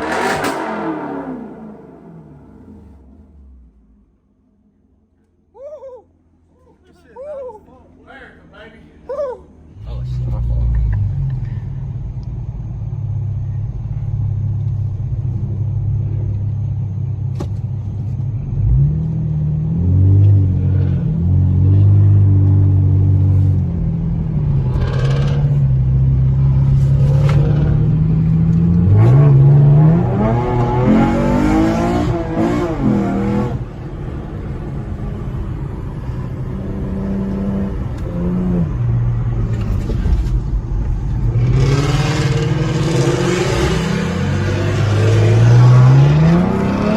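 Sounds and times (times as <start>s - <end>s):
car engine and exhaust revving: 0.0s - 4.8s, 9.8s - 46.9s.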